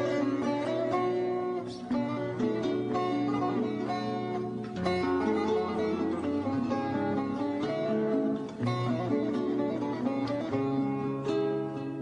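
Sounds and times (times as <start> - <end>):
plucked string instrument melody: 0.0 - 12.0.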